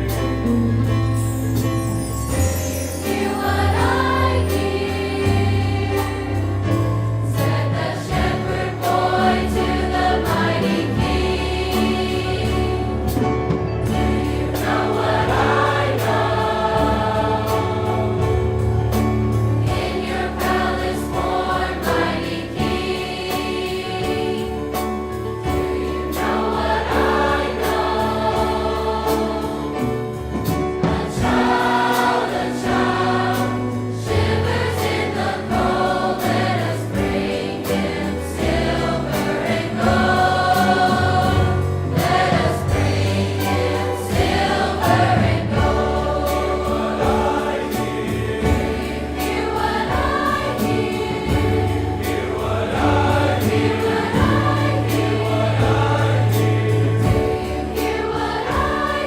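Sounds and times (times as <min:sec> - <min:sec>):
instrumental accompaniment: 0:00.0 - 0:59.0
choir singing: 0:01.2 - 0:59.0.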